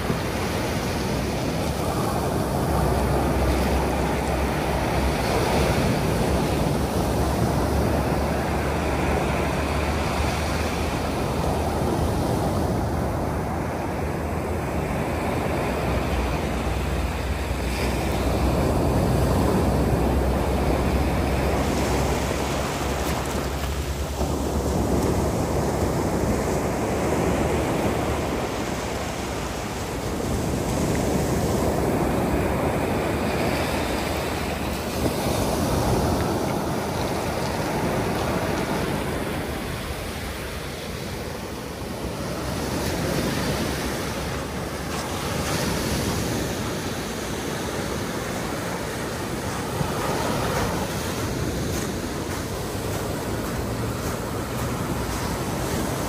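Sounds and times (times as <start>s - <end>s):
sea waves breaking on beach: 0.0s - 56.0s
wind rumble on microphone: 0.0s - 56.0s.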